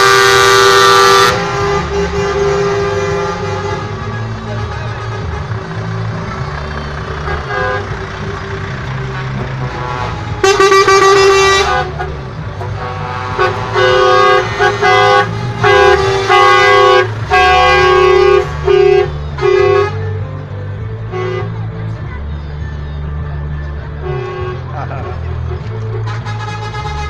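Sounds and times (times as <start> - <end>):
truck air horn blasts: 0.0 - 20.2, 21.0 - 21.6, 24.0 - 27.0
truck diesel engines rumbling: 0.0 - 27.0.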